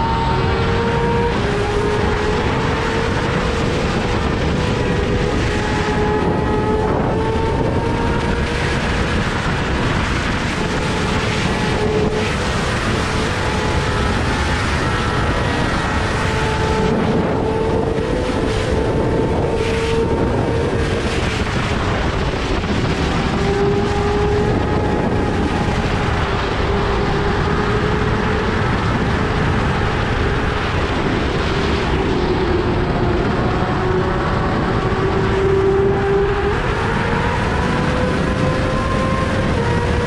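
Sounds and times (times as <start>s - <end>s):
motorcycle engine cruising: 0.0s - 40.0s
wind rushing over microphone: 0.0s - 40.0s.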